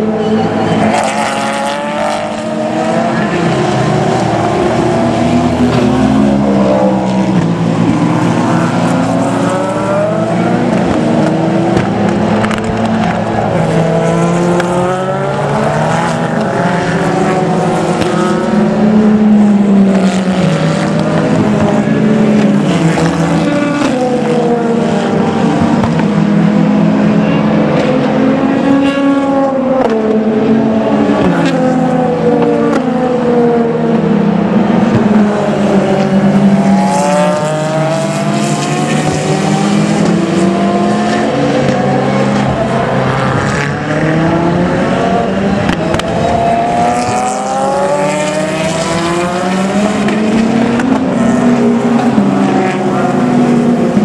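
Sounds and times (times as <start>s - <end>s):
racing car engines passing: 0.0s - 54.0s.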